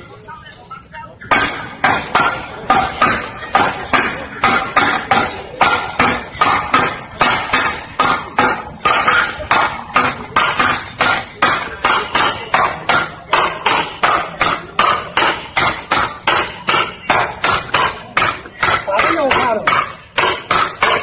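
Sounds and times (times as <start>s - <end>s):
sledgehammers striking wooden stake: 1.3s - 21.0s.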